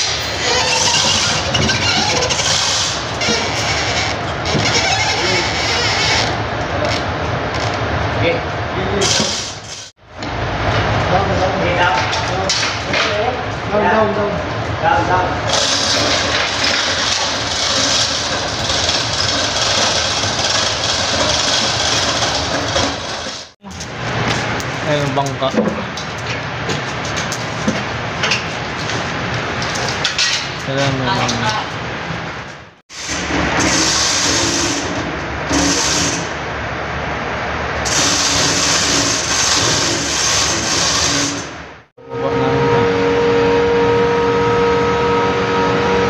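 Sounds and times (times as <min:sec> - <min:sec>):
machinery hiss and rumble: 0:00.0 - 0:46.0.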